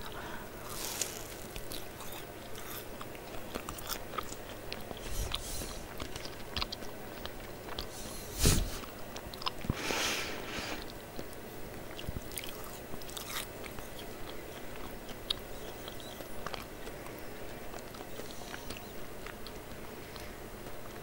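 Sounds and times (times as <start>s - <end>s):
crunchy food chewing: 0.0s - 21.0s.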